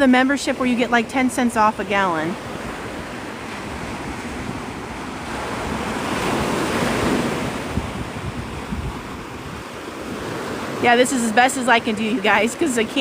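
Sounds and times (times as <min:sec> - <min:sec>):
wind buffeting microphone: 0:00.0 - 0:13.0
surf breaking on beach: 0:01.8 - 0:13.0.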